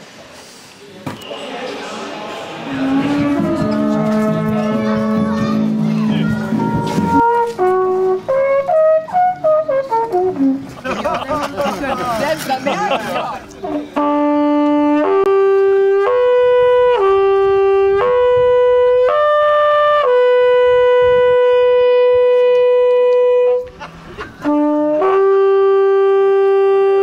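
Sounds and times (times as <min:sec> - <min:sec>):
wooden horn playing notes: 0:01.2 - 0:10.8, 0:13.4 - 0:27.0.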